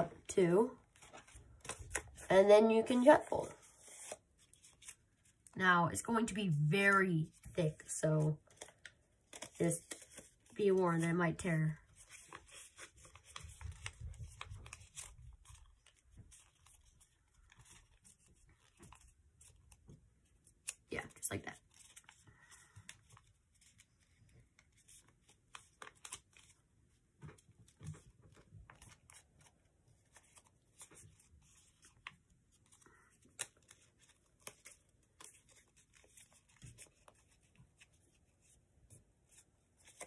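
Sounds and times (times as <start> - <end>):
paper crinkling being folded: 0.8 - 5.6, 7.2 - 40.0.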